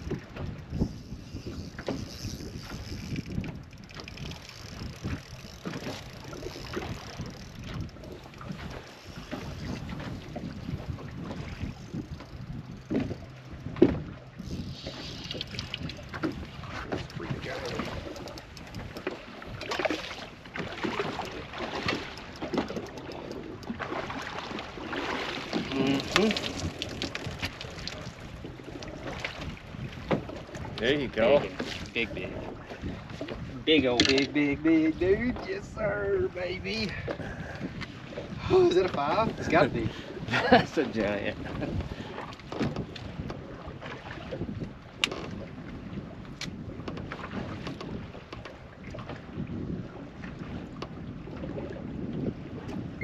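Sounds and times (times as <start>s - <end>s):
waves slapping boat hull: 0.0s - 53.0s
wind buffeting microphone: 0.0s - 53.0s.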